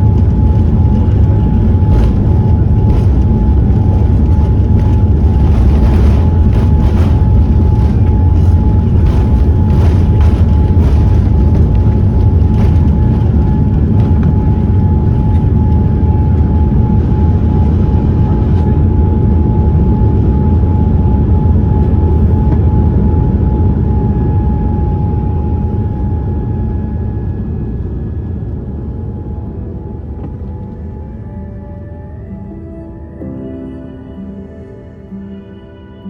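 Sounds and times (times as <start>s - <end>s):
airplane cabin engine rumble: 0.0s - 36.0s
thin steady whine: 0.0s - 36.0s.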